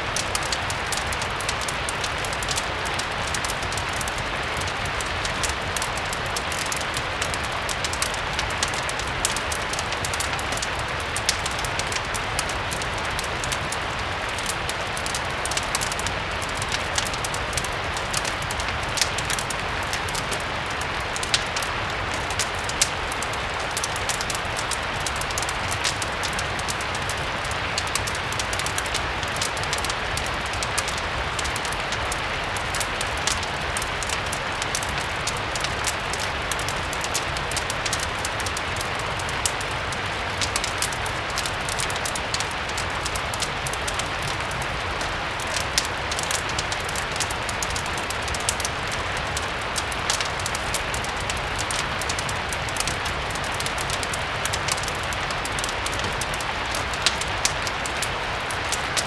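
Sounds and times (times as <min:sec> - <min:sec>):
fireplace crackling: 0:00.0 - 0:59.0
steady rain: 0:00.0 - 0:59.0.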